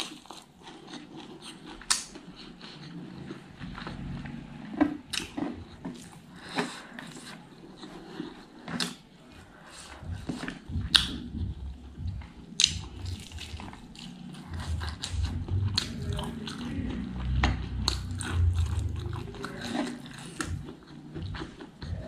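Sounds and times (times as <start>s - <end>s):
wet chewing: 0.0s - 22.0s.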